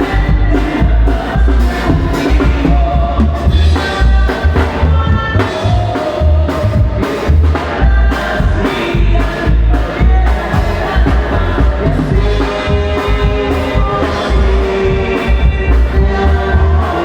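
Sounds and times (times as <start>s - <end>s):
live banda music: 0.0s - 17.0s.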